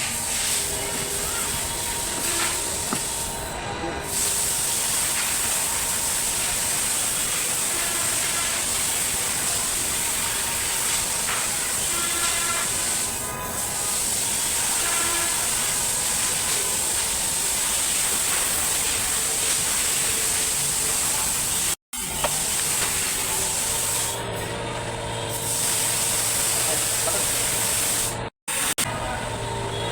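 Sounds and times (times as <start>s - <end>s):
steady hiss: 0.0s - 24.2s, 25.4s - 28.8s.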